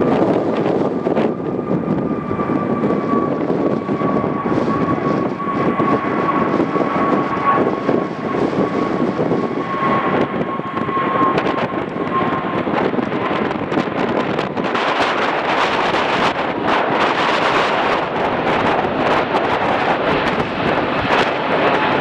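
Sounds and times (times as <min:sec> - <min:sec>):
jet engines whining: 0:00.0 - 0:22.0
wind buffeting microphone: 0:00.0 - 0:22.0.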